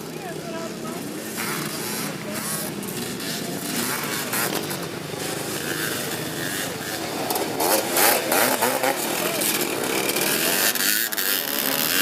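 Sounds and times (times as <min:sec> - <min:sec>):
three-wheeler engines revving: 0:00.0 - 0:12.0.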